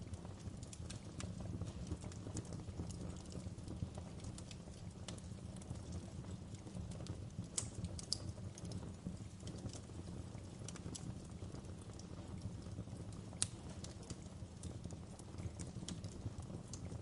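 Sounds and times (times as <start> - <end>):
burning logs crackling and popping: 0.0 - 17.0
low rumble of flames: 0.0 - 17.0.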